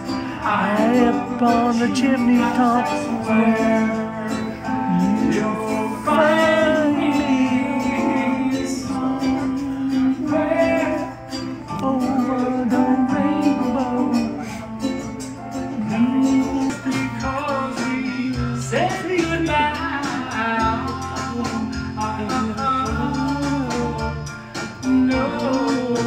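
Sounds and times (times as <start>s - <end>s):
acoustic guitar strumming: 0.0s - 26.0s
man singing into microphone: 0.0s - 26.0s.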